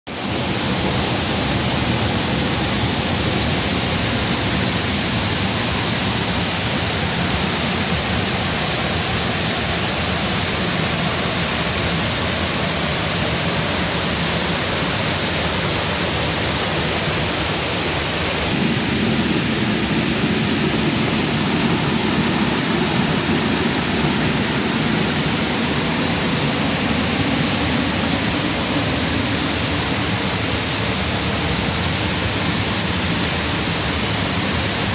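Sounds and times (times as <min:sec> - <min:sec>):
water flowing over rocks: 0:00.1 - 0:34.9.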